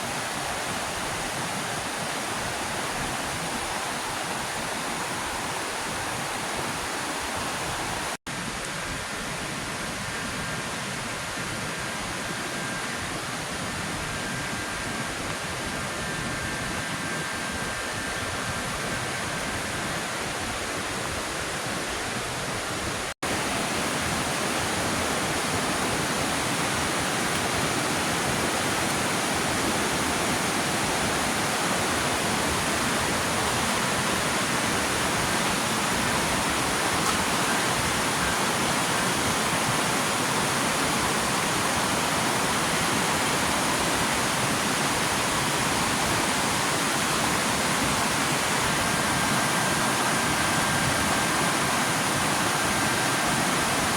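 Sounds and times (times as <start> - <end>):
waterfall rushing: 0.0 - 9.0, 19.2 - 53.9.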